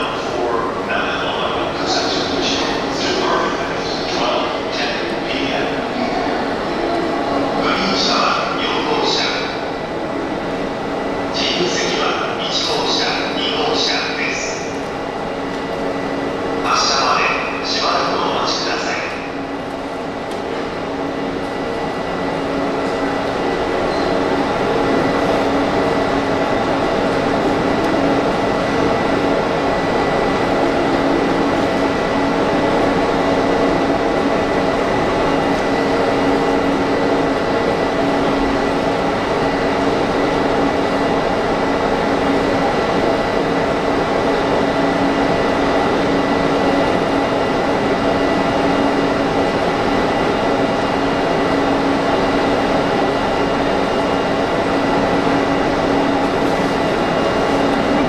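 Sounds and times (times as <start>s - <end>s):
train electrical equipment humming: 0.0s - 58.0s.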